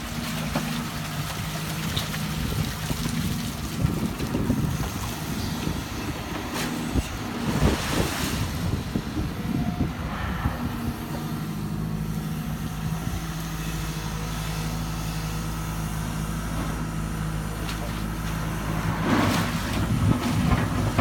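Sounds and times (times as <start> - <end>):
excavator diesel engine: 0.0 - 21.0.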